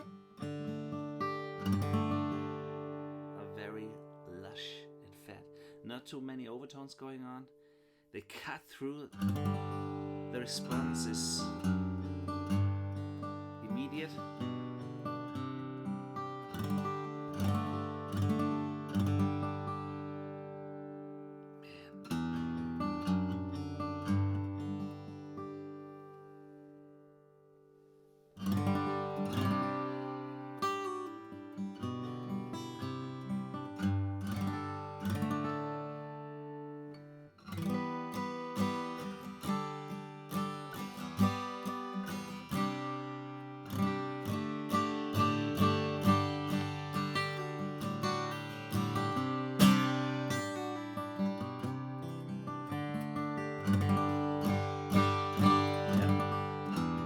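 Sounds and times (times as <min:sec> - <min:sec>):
acoustic guitar playing: 0:00.0 - 0:08.1, 0:08.9 - 0:57.0.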